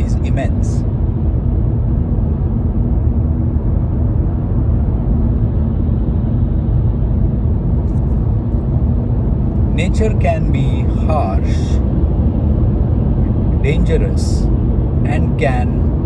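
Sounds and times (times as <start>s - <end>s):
faint steady hum: 0.0s - 16.0s
loud low rumbling: 0.0s - 16.0s.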